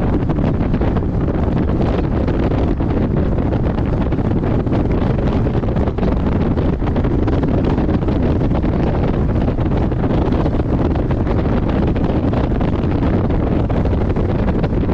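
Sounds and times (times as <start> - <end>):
sports car engine and road noise: 0.0 - 14.9
wind buffeting microphone: 0.0 - 14.9.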